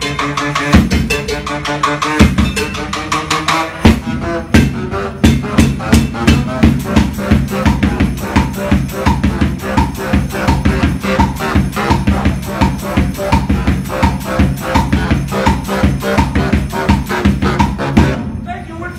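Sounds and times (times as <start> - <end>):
baritone saxophone riff: 0.0 - 18.4
bass drum and snare beat: 0.0 - 18.4.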